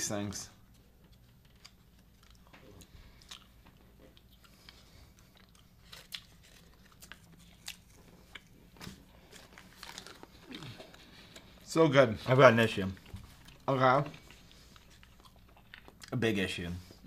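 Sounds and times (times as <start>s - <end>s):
person chewing: 0.7s - 11.7s, 12.8s - 16.2s.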